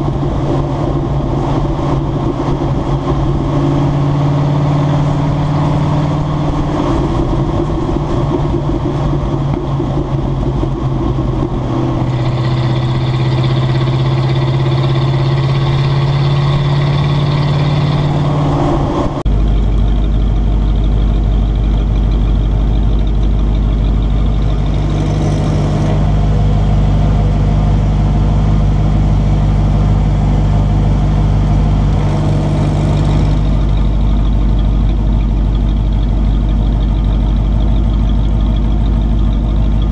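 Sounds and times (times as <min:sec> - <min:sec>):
engine idle rumble: 0:00.0 - 0:39.9
truck engine running: 0:00.0 - 0:39.9.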